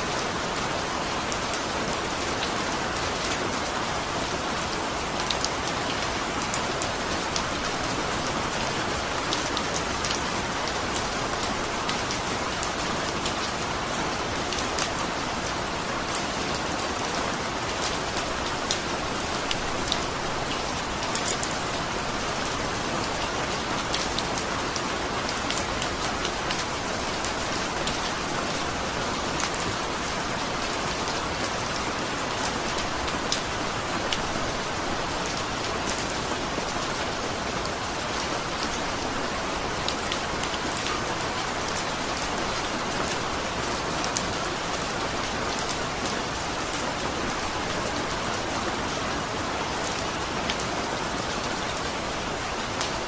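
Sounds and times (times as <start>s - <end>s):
steady rain patter: 0.0s - 53.0s.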